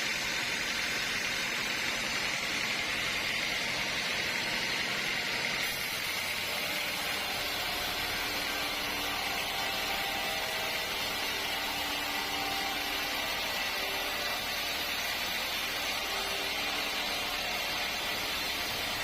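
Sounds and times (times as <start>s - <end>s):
sawmill machinery hiss: 0.0s - 19.0s.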